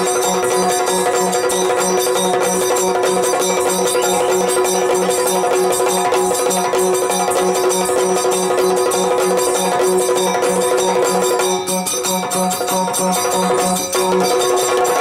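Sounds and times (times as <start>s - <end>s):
drums beating: 0.0s - 15.0s.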